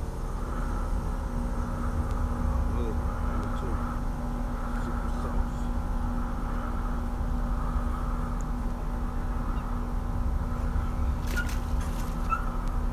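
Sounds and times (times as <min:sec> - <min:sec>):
constant humming tone: 0:00.0 - 0:12.9.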